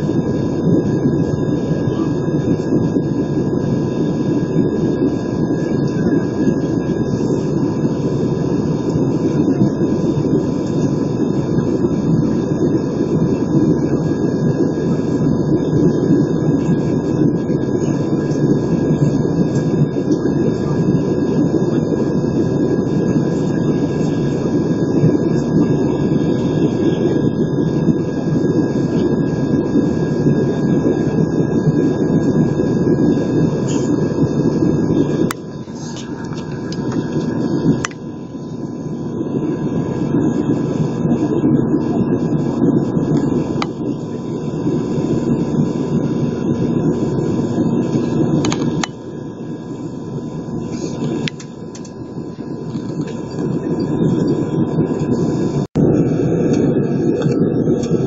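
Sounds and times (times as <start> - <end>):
faint steady whine: 0.0 - 58.0
jet engine cabin roar: 0.0 - 58.0.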